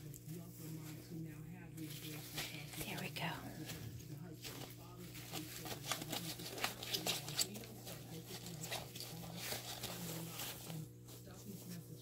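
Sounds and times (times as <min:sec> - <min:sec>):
low steady hum: 0:00.0 - 0:12.0
puppies rustling in wood shavings: 0:00.0 - 0:12.0.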